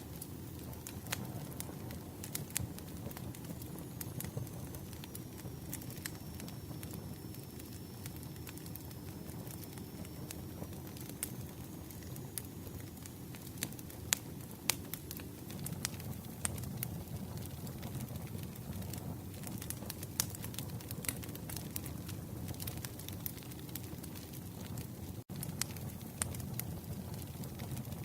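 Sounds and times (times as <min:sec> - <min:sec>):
campfire flames rumbling: 0:00.0 - 0:28.0
wood crackling and popping: 0:00.0 - 0:28.0.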